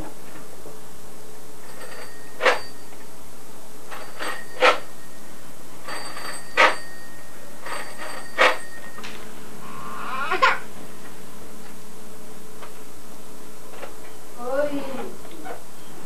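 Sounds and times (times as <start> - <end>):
faint high steady tone: 0.0 - 16.0
steady low hum: 0.0 - 16.0.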